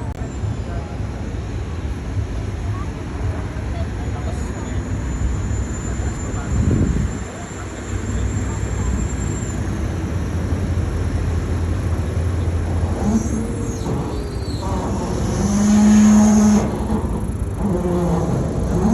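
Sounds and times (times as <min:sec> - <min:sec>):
boat engine droning: 0:00.0 - 0:18.9.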